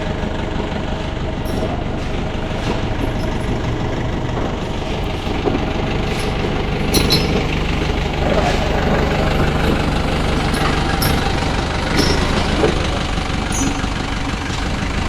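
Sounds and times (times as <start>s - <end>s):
large vehicle engine idling: 0.0s - 15.0s
light clicks and knocks: 1.4s - 15.0s.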